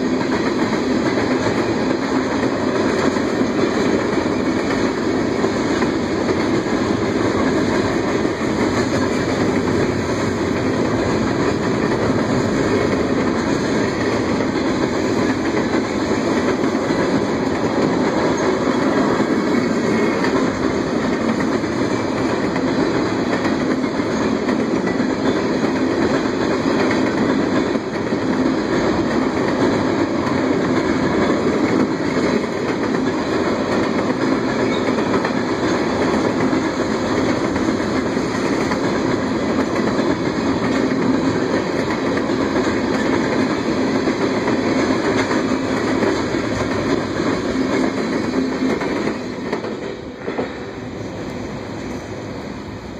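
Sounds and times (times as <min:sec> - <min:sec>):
freight train rolling past: 0:00.0 - 0:52.9.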